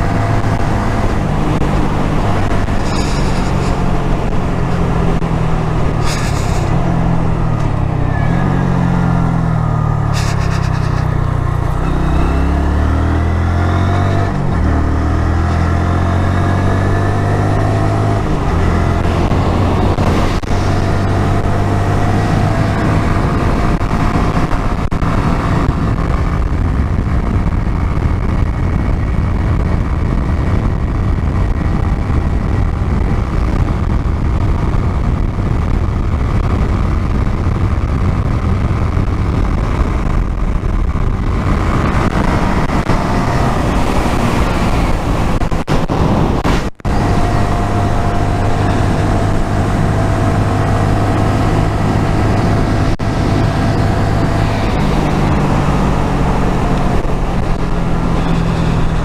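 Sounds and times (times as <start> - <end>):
motorcycle engine running: 0.0 - 59.0
wind and road rush: 0.0 - 59.0.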